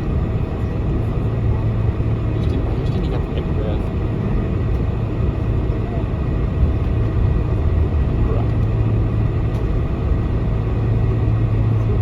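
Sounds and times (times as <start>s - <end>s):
airplane cabin rumble while taxiing: 0.0s - 12.0s
constant low hum: 0.0s - 12.0s.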